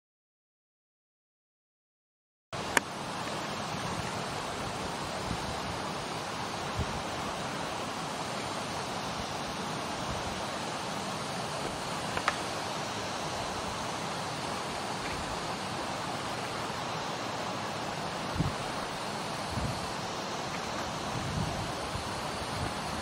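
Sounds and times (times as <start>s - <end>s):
steady rushing noise: 2.6s - 23.0s.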